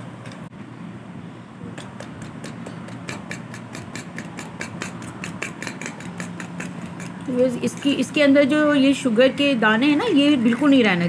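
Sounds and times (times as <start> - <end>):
metal spoon beating eggs in bowl: 1.8 - 10.8.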